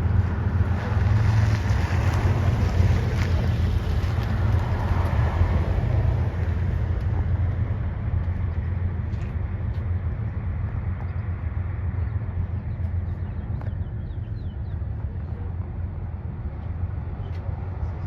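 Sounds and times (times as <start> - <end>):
locomotive engine drone: 0.0 - 18.0.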